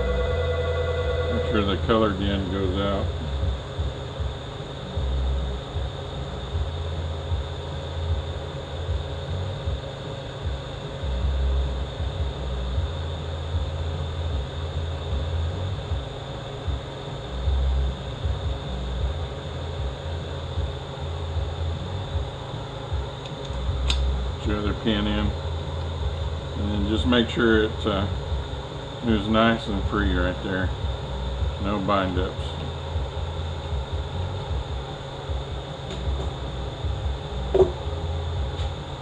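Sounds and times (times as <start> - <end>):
ventilation fan humming: 0.0 - 39.0.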